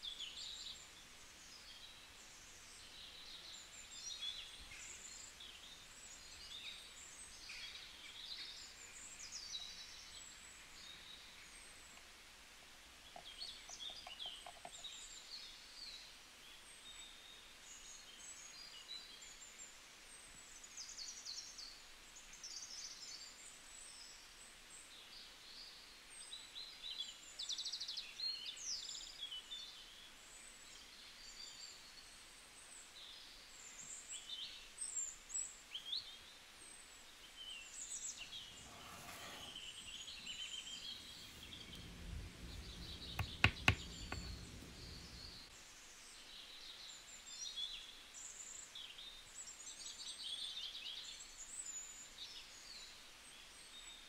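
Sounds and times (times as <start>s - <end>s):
small birds chirping and singing: 0.0s - 12.1s, 13.0s - 54.0s
faint background noise: 0.0s - 54.0s.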